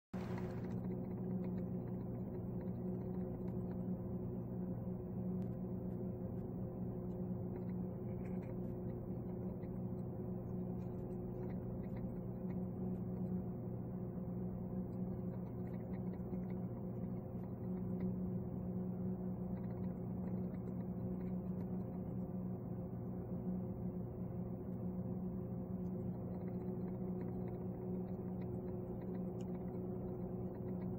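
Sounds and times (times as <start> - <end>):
low hum with fixed tones: 0.2 - 30.9.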